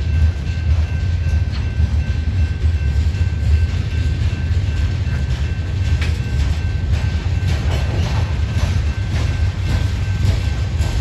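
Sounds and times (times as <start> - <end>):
freight cars rumbling: 0.0 - 11.0
wheels clicking over rail joints: 0.0 - 11.0.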